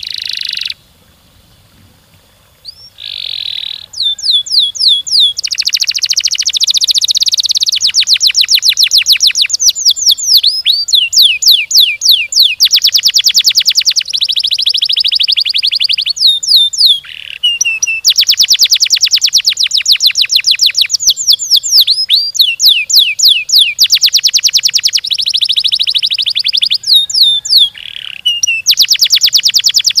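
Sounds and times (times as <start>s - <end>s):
canary singing trills: 0.0s - 0.8s, 2.3s - 30.0s.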